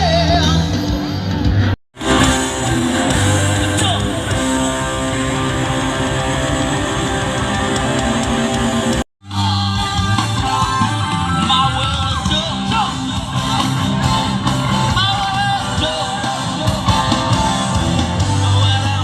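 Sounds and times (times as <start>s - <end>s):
electric guitar: 0.0s - 19.0s
live rock band playing: 0.0s - 19.0s.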